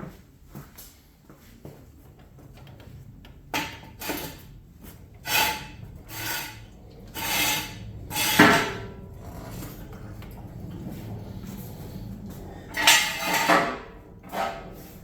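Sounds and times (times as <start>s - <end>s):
hard parts scraping together: 3.0s - 15.0s.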